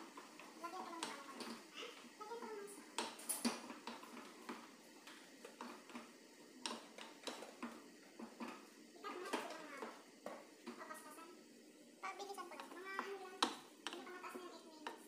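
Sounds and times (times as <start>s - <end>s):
wooden spoon stirring in saucepan: 0.0s - 15.0s.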